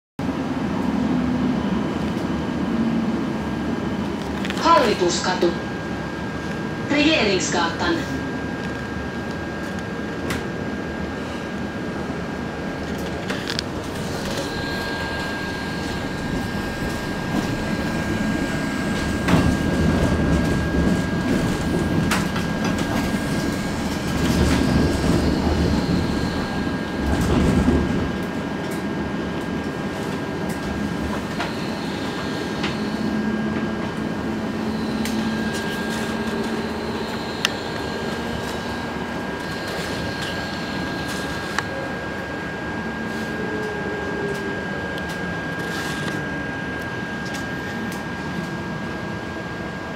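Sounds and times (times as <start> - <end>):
high whine: 0.2 - 49.9
tram wheels rumbling: 0.2 - 49.9.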